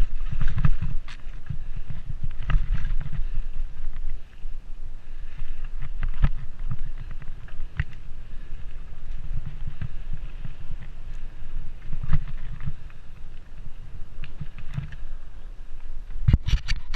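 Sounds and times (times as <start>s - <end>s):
bike rattling over bumps: 0.0s - 16.9s
rumble of wind and tyres: 0.0s - 16.9s.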